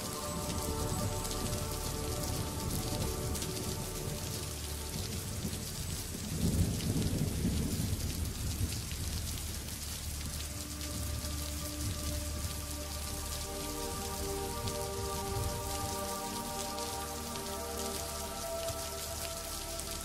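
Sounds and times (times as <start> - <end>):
soft music with held notes: 0.0 - 20.0.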